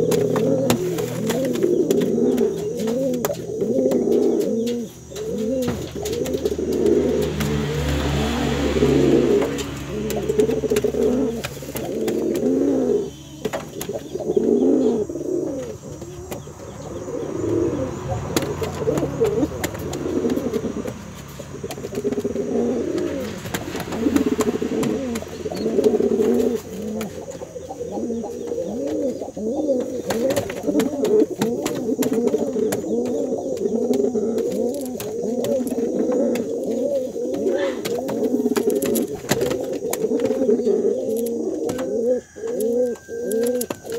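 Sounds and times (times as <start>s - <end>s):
pigeon cooing: 0.0s - 43.9s.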